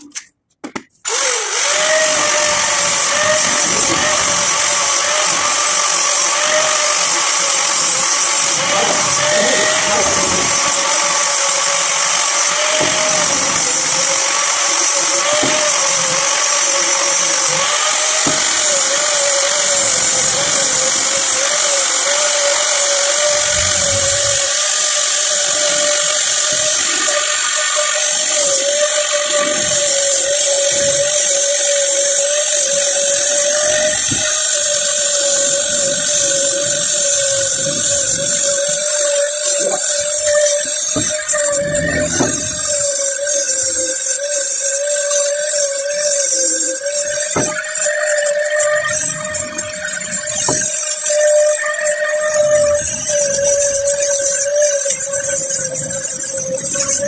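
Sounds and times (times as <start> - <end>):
angle grinder grinding wood: 0.0 - 57.0.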